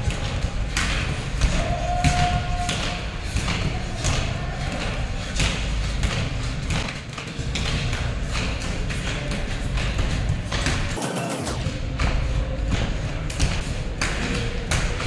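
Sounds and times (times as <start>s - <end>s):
rope slapping hard floor: 0.0s - 15.0s.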